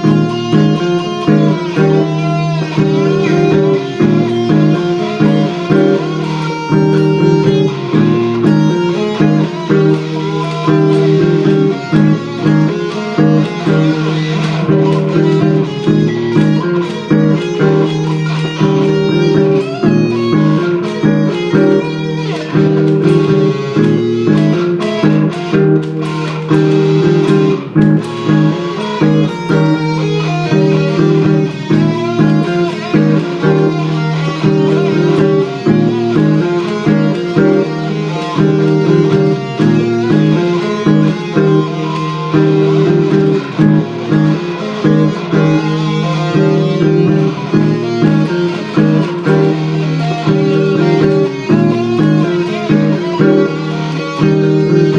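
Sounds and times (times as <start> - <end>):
electric guitar lead lines: 0.0 - 54.9
looped guitar chord pattern: 0.0 - 54.9.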